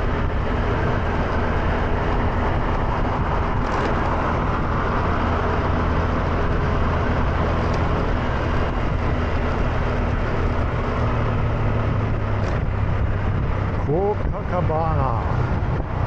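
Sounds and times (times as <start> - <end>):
road noise rushing: 0.0 - 16.0.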